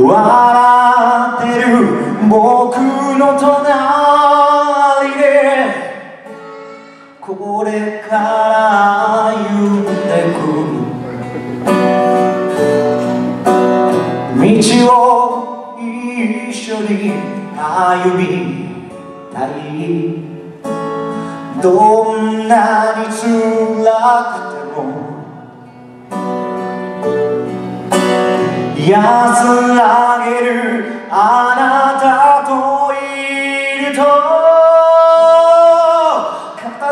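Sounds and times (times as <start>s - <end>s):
man singing into microphone: 0.0s - 11.6s, 14.2s - 20.5s, 21.5s - 25.5s, 28.6s - 36.9s
strummed acoustic guitar: 0.0s - 36.9s.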